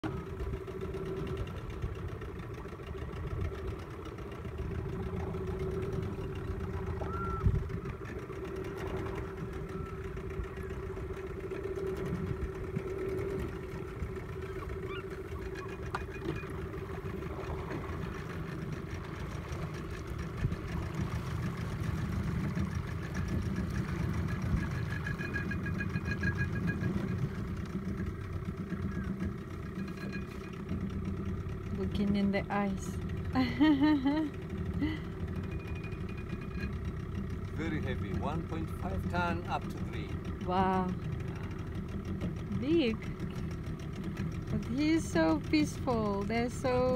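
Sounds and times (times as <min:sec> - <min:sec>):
outboard motor idling: 0:00.0 - 0:46.9.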